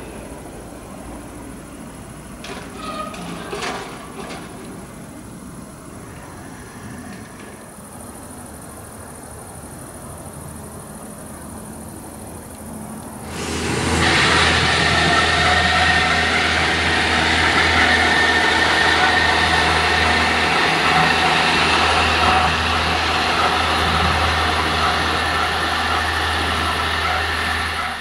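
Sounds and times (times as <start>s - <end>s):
diesel railcar engine running: 0.0s - 28.0s
wheel and rail noise: 0.0s - 28.0s.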